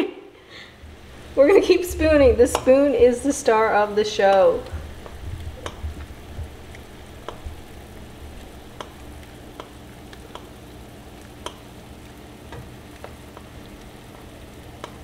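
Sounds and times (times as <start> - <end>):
syrup bubbling and sizzling: 0.7 - 15.0.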